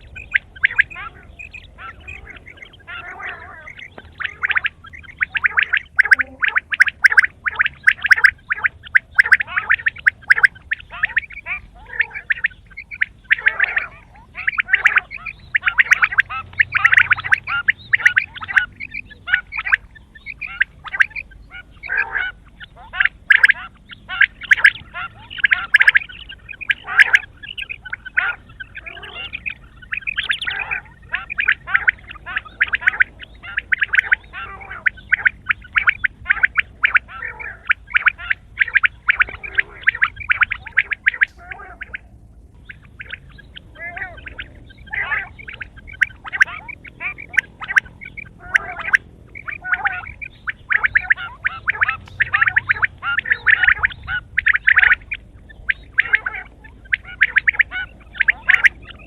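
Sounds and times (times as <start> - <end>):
quail calling: 0.0 - 59.0.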